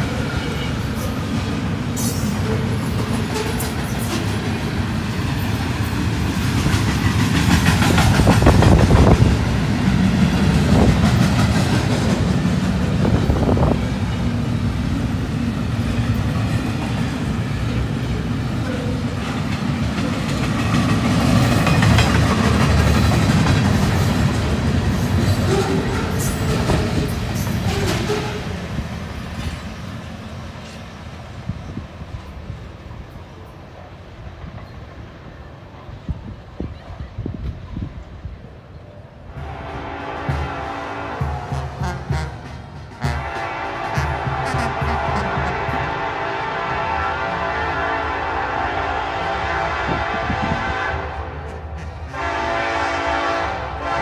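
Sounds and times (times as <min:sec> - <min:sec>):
clickety-clack of train wheels: 0:00.0 - 0:33.2, 0:39.3 - 0:46.2, 0:49.8 - 0:52.9
freight train rumbling past: 0:00.0 - 0:54.0.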